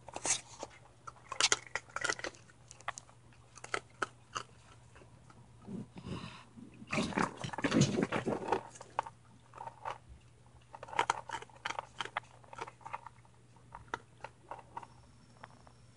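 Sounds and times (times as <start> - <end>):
raccoons chewing dry kibble: 0.0 - 15.9.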